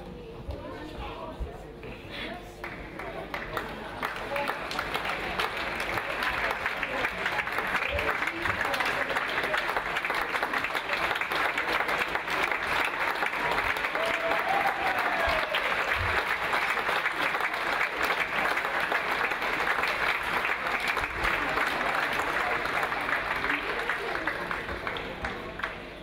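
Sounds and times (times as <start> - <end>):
audience applauding: 2.6 - 26.0.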